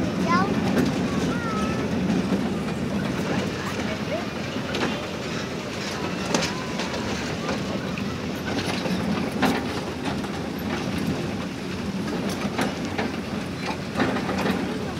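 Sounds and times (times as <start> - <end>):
small train rumbling: 0.0 - 14.9
train wheels clacking: 0.0 - 14.9.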